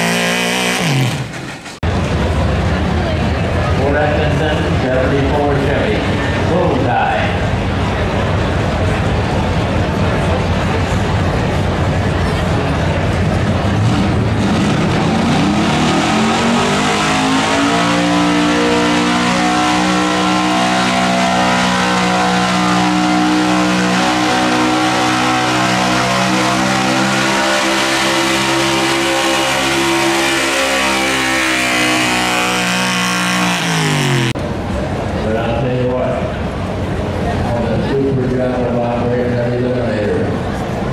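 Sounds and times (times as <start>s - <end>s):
truck engine revving at full throttle: 0.0s - 35.3s.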